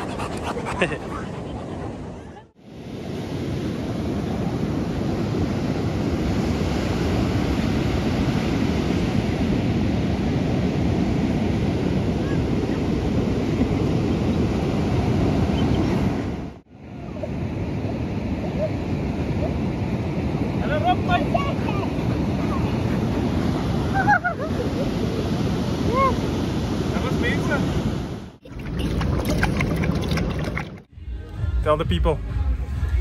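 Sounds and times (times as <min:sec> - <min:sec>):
ocean surf breaking: 0:02.0 - 0:28.4.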